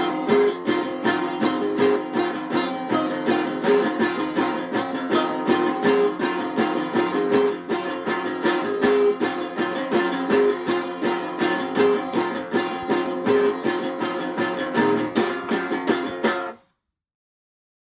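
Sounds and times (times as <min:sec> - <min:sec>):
plucked string music: 0:00.0 - 0:16.6.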